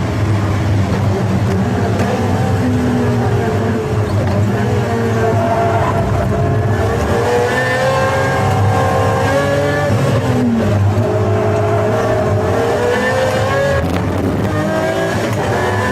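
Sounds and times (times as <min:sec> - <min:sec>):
car engine revving hard: 0:00.1 - 0:15.9.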